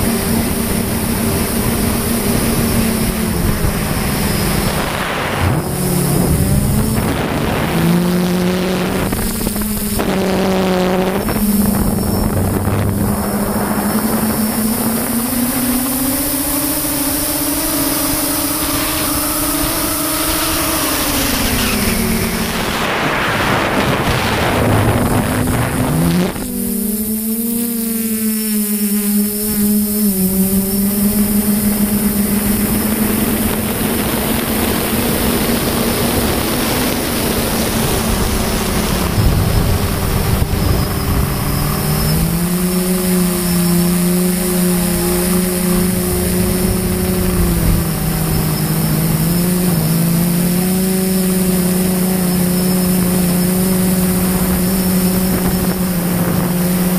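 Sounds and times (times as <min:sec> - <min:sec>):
wind rush: 0:00.0 - 0:27.1, 0:30.9 - 0:56.9
model aircraft motor droning: 0:00.0 - 0:56.9.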